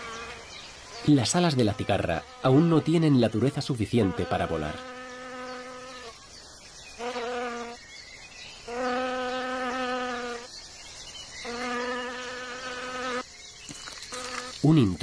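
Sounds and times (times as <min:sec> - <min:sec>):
wasp wings buzzing: 0:00.0 - 0:03.1, 0:04.0 - 0:07.8, 0:08.6 - 0:10.6, 0:11.3 - 0:14.8.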